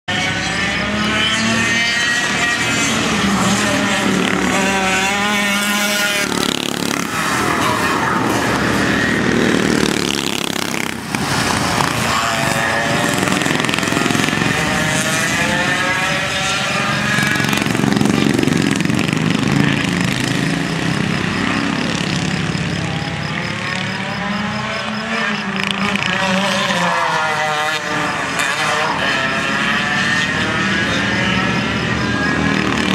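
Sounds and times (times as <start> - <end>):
kart engine revving: 0.1 - 32.9.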